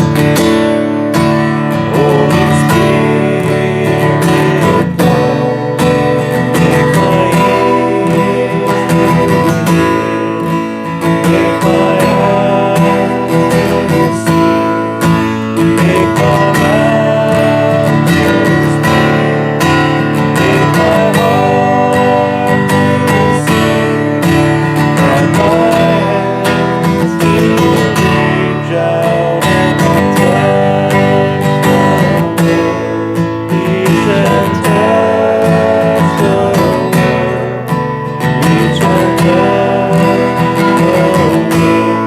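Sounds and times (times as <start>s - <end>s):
strummed acoustic guitar music: 0.0s - 42.0s.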